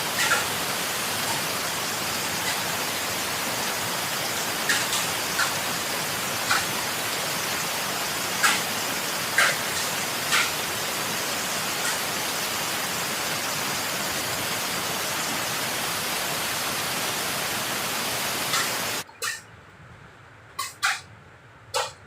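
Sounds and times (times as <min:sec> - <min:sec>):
heavy rain pouring: 0:00.0 - 0:19.1.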